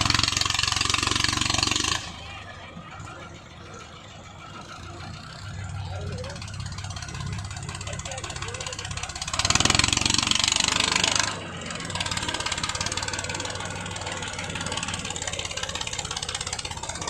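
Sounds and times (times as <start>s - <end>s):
tractor diesel engine clattering: 0.0s - 17.0s.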